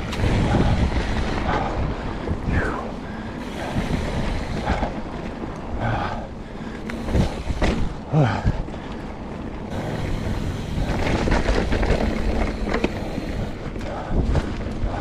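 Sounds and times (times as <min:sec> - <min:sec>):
bike rattling: 0:00.0 - 0:15.0
bike tyre and trail noise: 0:00.0 - 0:15.0
wind buffeting microphone: 0:00.0 - 0:15.0.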